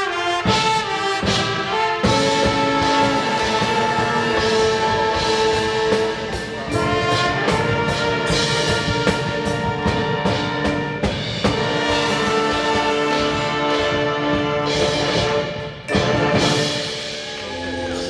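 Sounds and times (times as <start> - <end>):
brass and wind chords: 0.0 - 18.0
percussion strokes: 0.4 - 18.0.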